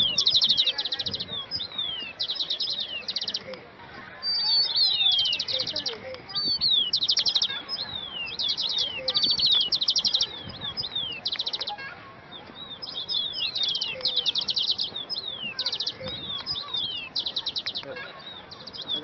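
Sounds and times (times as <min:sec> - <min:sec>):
small songbirds chirping: 0:00.0 - 0:19.0.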